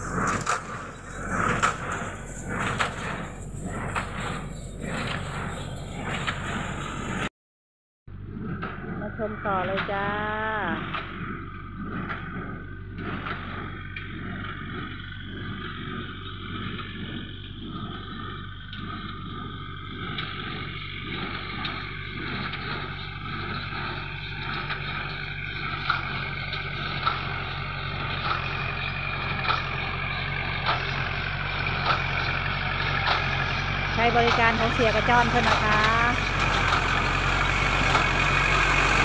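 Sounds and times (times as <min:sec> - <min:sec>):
tractor engine running: 0:00.0 - 0:07.3, 0:08.1 - 0:39.0.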